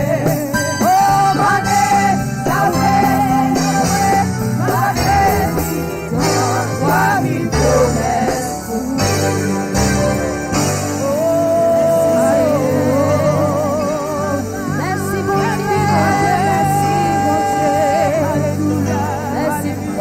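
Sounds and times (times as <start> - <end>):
instrumental accompaniment: 0.0 - 20.0
person singing: 0.0 - 20.0.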